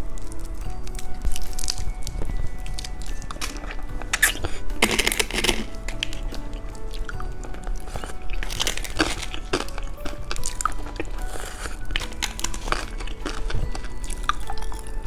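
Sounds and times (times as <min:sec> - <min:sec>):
hard candy crunching: 0:00.0 - 0:15.0.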